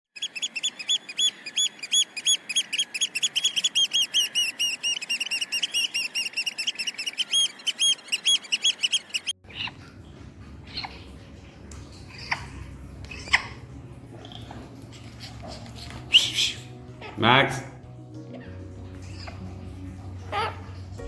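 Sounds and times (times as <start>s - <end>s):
bird chirping: 0.2s - 21.0s.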